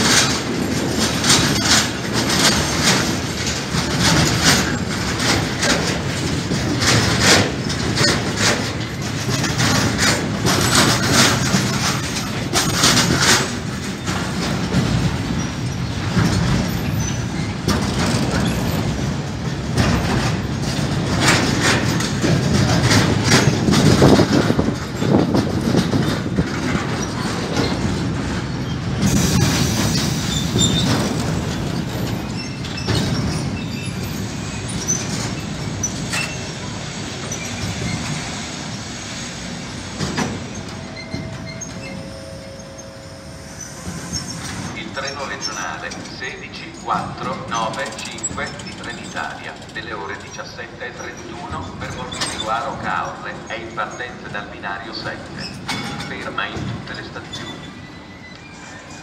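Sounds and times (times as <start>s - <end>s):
clacks over rail joints: 0.0s - 42.7s, 44.1s - 58.7s
train wheels rumbling on rail: 0.0s - 59.0s.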